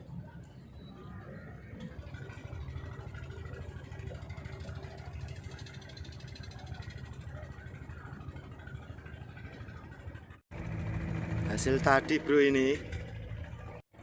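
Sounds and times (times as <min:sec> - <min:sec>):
small engine running: 0:01.8 - 0:14.0.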